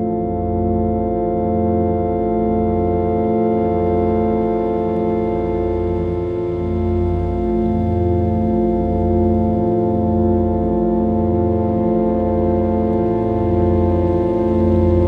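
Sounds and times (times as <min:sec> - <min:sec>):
slow pulsing bass: 0:00.0 - 0:15.0.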